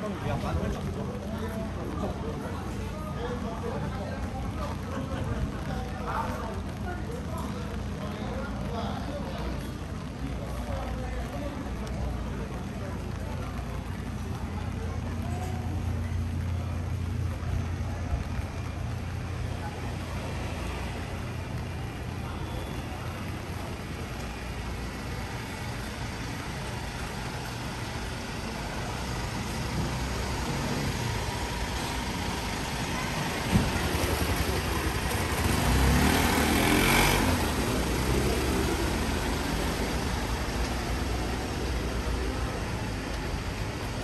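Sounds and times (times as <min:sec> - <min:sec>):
vehicle passing on wet street: 0:00.0 - 0:44.0.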